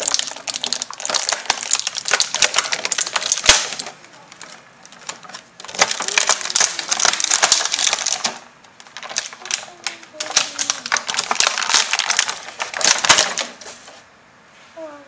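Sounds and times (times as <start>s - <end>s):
plastic toy figures rattling: 0.0s - 14.0s.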